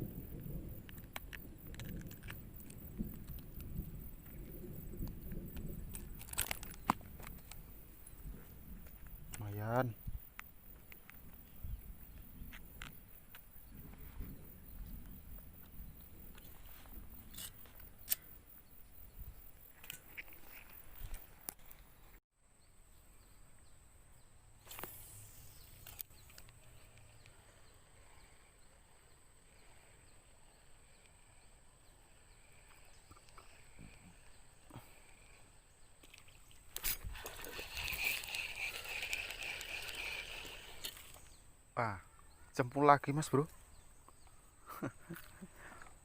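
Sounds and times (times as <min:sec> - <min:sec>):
rough noise with chirping pulse: 0:00.0 - 0:46.0.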